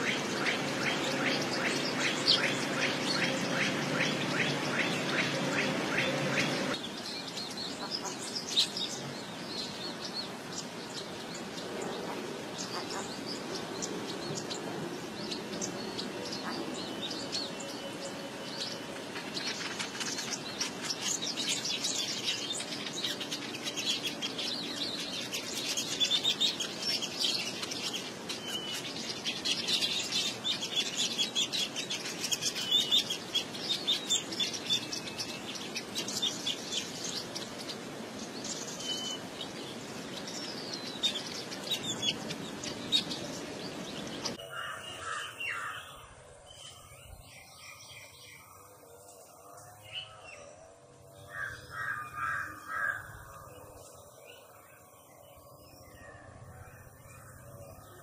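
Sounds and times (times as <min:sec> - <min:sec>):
weaver birds chattering and chirping: 0:00.0 - 0:58.0.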